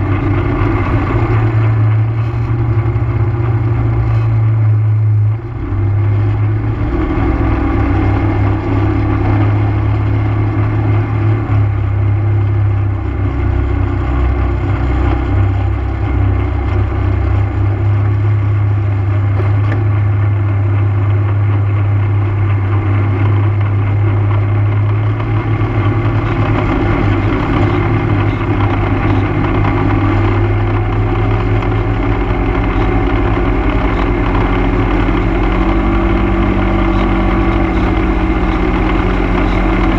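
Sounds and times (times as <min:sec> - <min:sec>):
atv engine droning: 0:00.0 - 0:39.9.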